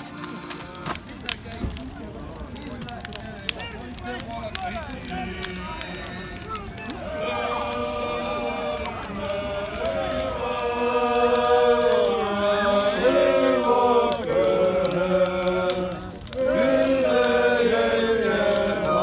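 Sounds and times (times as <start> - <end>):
group singing polyphonic folk song: 0.0 - 1.8, 4.9 - 19.0.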